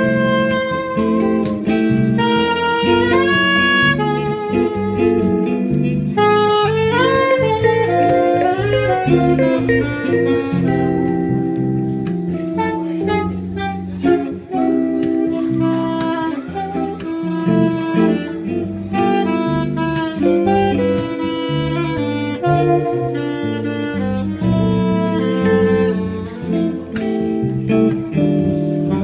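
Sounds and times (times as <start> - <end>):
bass guitar: 0.0 - 29.0
electric guitar: 0.0 - 29.0
saxophone melody: 0.0 - 29.0.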